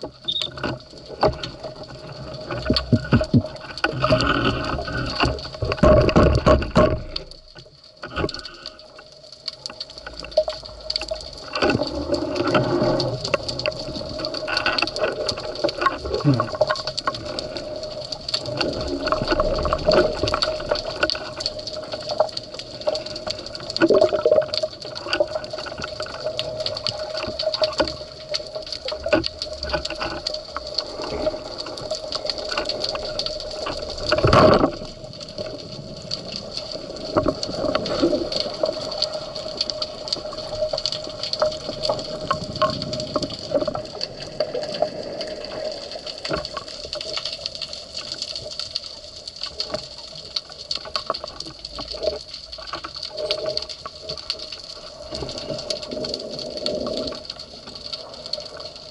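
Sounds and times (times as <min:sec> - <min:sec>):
small underwater clicks: 0:00.0 - 0:58.9
underwater moving water hum: 0:00.0 - 0:58.9.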